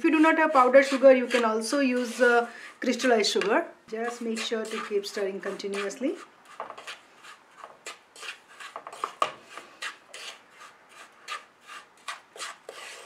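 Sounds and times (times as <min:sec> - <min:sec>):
spatula scraping sugar in pan: 0:00.0 - 0:13.0.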